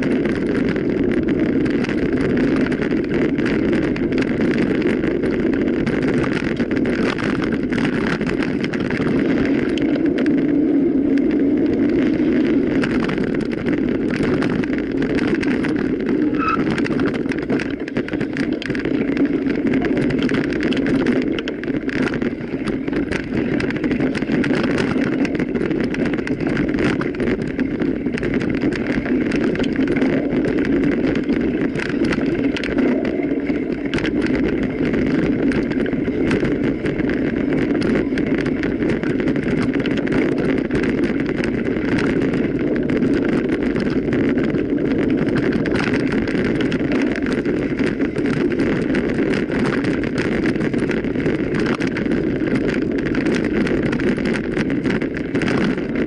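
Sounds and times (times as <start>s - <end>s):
bike rattles and knocks: 0.0s - 56.0s
tyres rumbling: 0.0s - 56.0s
wind: 0.0s - 56.0s.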